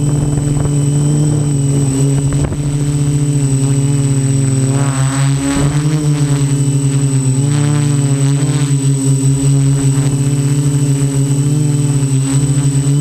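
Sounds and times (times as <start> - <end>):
high-pitched whine: 0.0 - 13.0
quadcopter motors buzzing: 0.0 - 13.0.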